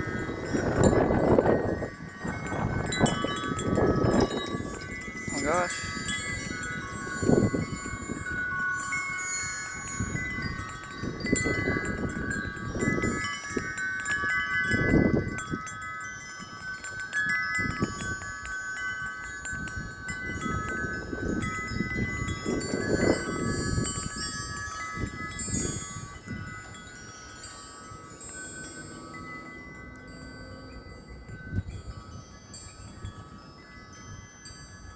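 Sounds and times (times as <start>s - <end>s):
gusty wind rumbling: 0.0s - 34.9s
wind chimes ringing: 0.0s - 34.9s.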